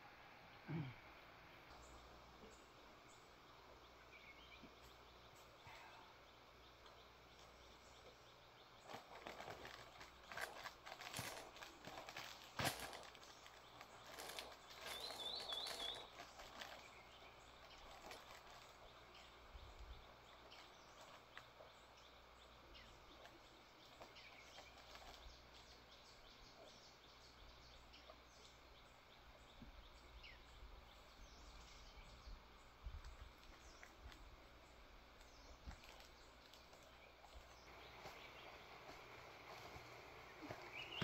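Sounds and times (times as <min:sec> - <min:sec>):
rustle: 0:00.0 - 0:41.0.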